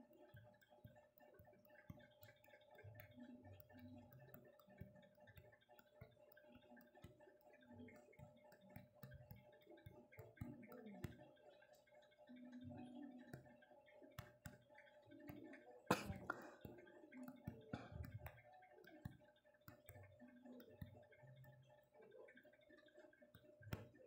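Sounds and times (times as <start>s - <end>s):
soft ticks: 0.0s - 24.0s.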